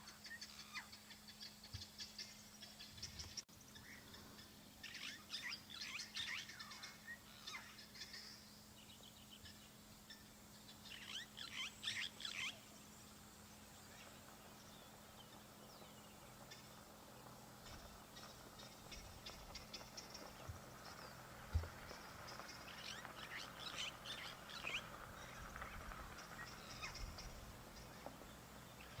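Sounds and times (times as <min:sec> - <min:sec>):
guineafowl alarm calls: 0:00.0 - 0:08.4, 0:10.1 - 0:12.8, 0:16.4 - 0:29.0.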